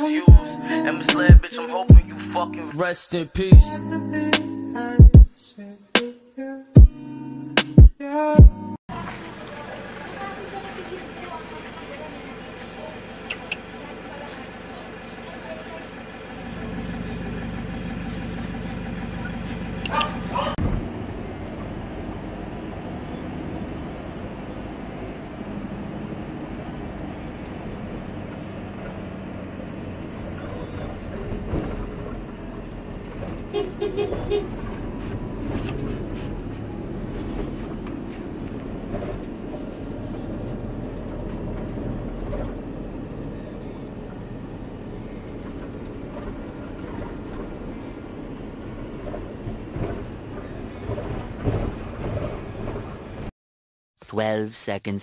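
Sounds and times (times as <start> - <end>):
low rumble of engine and tyres: 8.4 - 53.3.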